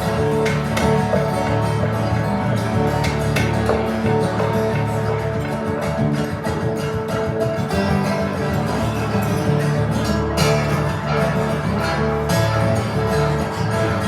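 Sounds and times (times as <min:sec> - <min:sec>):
acoustic guitar plucked and strummed: 0:00.0 - 0:14.0.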